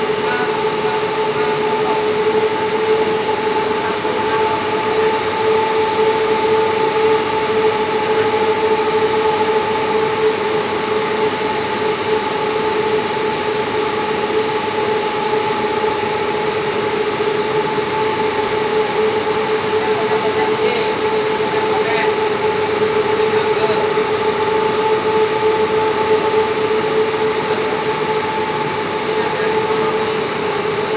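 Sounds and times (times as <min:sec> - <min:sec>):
industrial machinery drone: 0:00.0 - 0:30.9.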